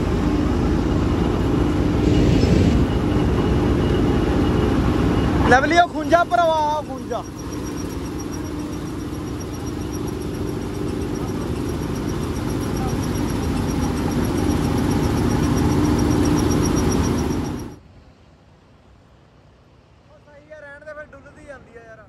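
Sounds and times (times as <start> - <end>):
combine harvester engine and auger: 0.0 - 17.8.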